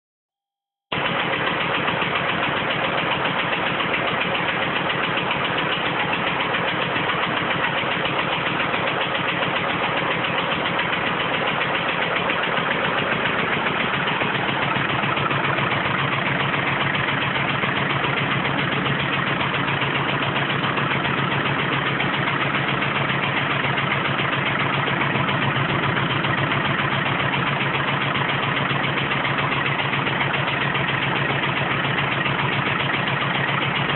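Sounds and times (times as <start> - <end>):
diesel engine idling: 0.9 - 33.9.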